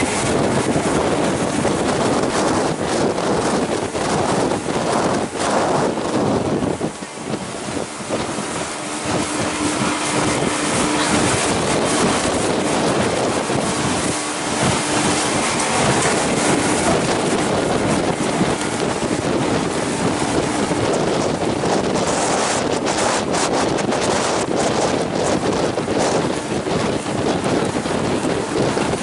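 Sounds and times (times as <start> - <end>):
boat engine hum: 0.0 - 29.0
water rushing over hull: 0.0 - 29.0
wind on microphone: 0.0 - 29.0.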